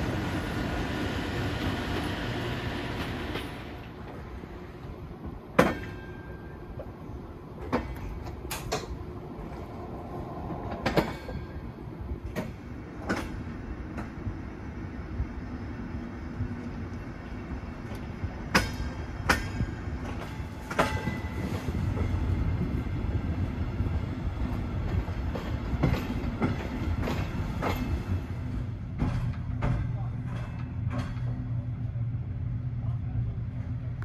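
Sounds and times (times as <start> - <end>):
train humming: 0.0 - 34.0.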